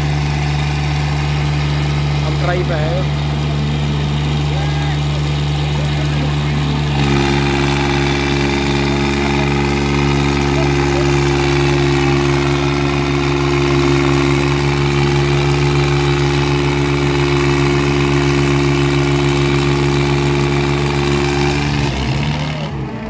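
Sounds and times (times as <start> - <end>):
tractor engines straining: 0.0 - 23.0.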